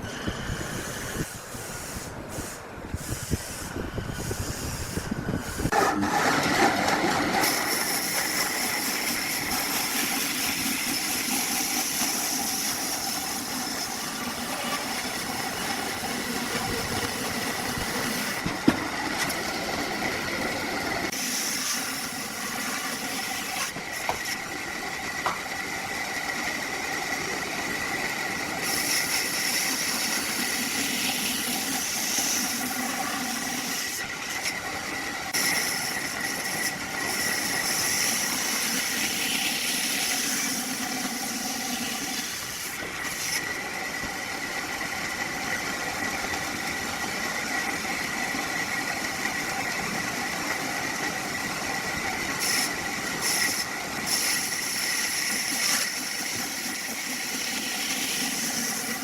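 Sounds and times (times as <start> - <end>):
machinery hissing and whining: 0.0 - 59.0.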